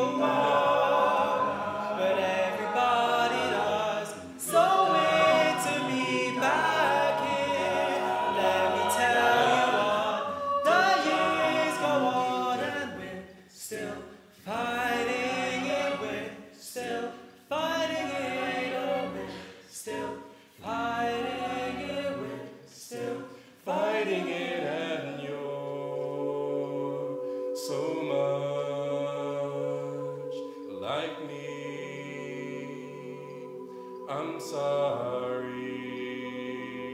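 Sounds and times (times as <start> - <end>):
a cappella group singing: 0.0 - 36.9.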